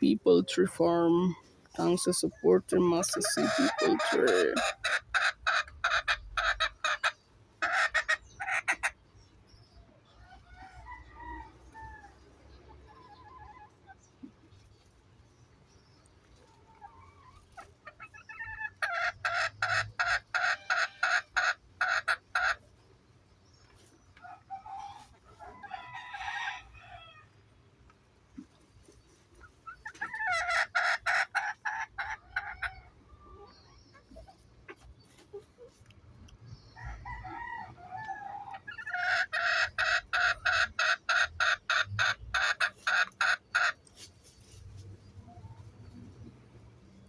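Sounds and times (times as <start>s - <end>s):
chickens clucking and cackling: 0.0s - 47.0s.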